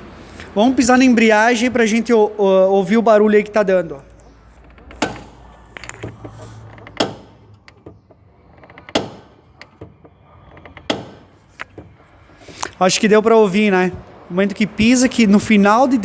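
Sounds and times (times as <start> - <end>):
clutch clunking: 0.0 - 16.0.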